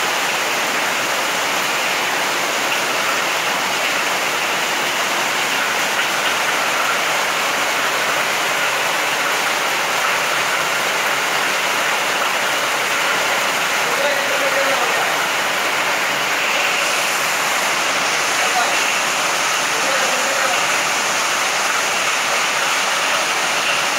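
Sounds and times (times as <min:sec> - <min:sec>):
heavy rain splashing: 0:00.0 - 0:23.9.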